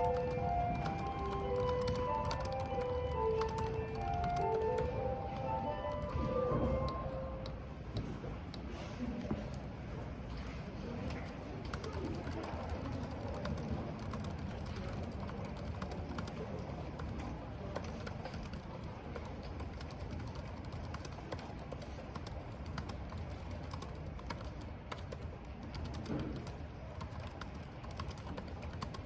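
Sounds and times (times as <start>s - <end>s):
keyboard typing clicks: 0.0s - 8.6s, 11.0s - 29.0s.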